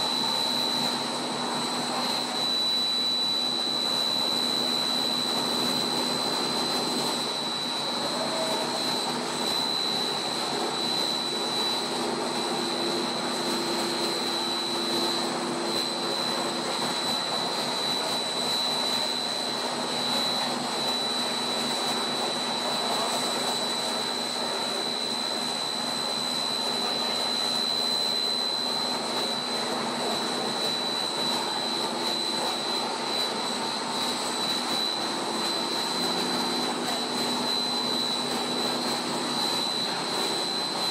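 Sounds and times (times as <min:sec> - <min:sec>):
high-pitched machine whine: 0:00.0 - 0:40.9
steady machine noise: 0:00.0 - 0:40.9.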